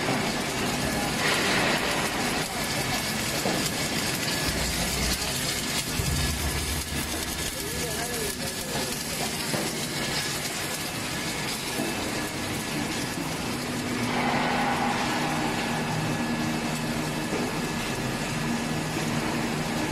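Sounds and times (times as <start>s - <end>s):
fabrication machine running: 0.0s - 19.9s.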